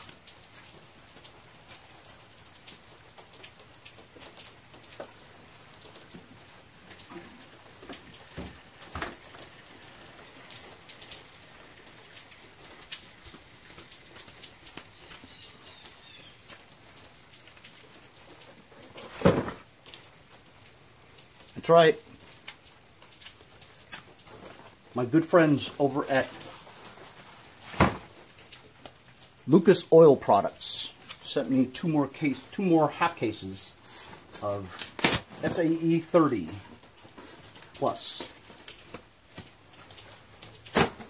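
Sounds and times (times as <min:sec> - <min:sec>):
oil dripping into plastic tub: 0:00.0 - 0:41.0.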